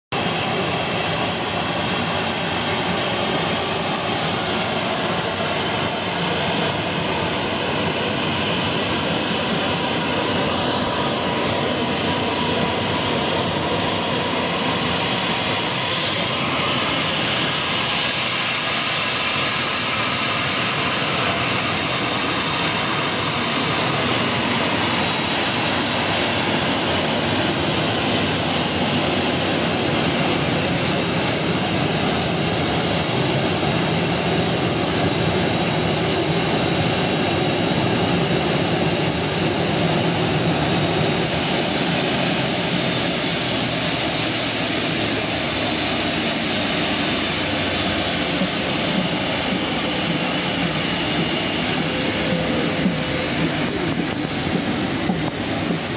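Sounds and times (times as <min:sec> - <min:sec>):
jet airliner engines taxiing: 0:00.2 - 0:55.9.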